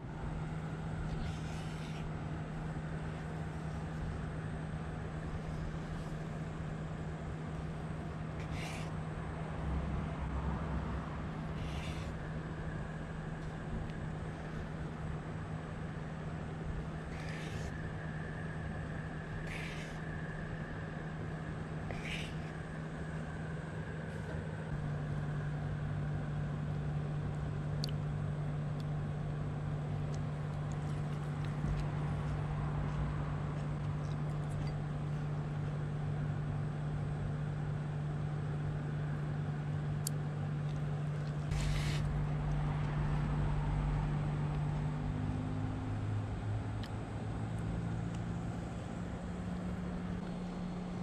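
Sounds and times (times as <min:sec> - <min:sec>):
low motor hum: 0:00.0 - 0:51.0.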